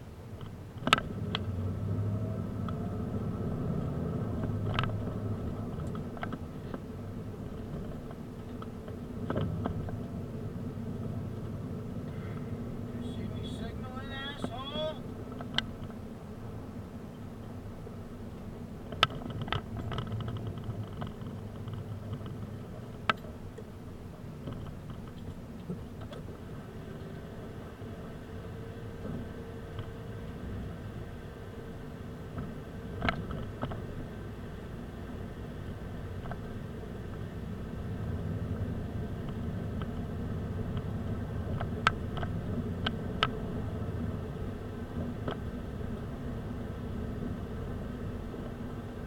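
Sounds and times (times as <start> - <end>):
car engine low rumble: 0.0 - 49.0.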